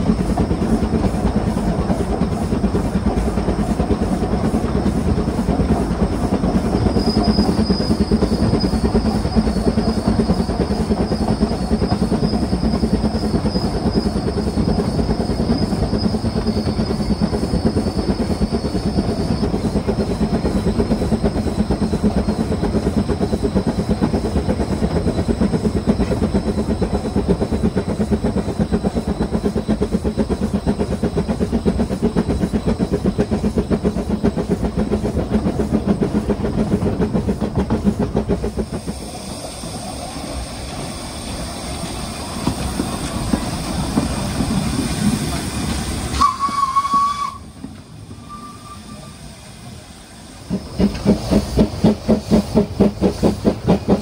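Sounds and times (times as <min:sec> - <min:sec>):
train wheels clattering on rail: 0:00.0 - 0:54.0.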